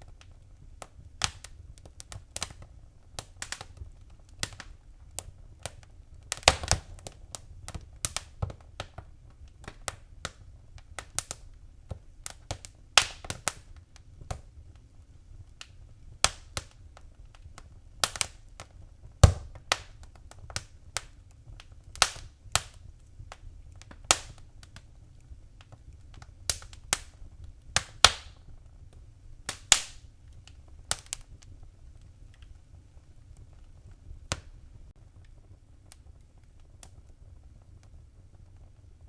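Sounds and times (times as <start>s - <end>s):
low rumble of flame: 0.0s - 39.0s
wood fire crackling: 0.0s - 39.0s.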